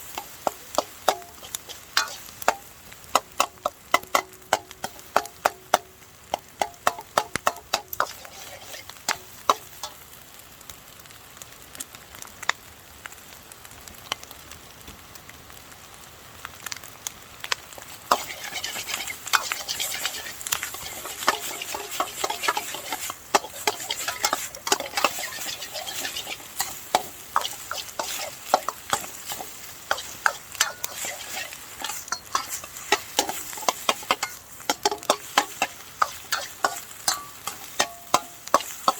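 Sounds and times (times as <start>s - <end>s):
utensil clanking against wok: 0.0s - 10.1s, 17.8s - 38.9s
rice sizzling in a wok: 0.0s - 38.9s.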